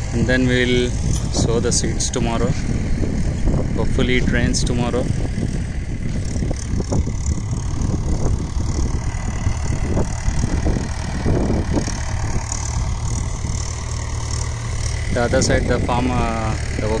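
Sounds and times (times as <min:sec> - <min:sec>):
irregular rattle: 0:00.0 - 0:17.0
tractor diesel engine running: 0:00.0 - 0:17.0.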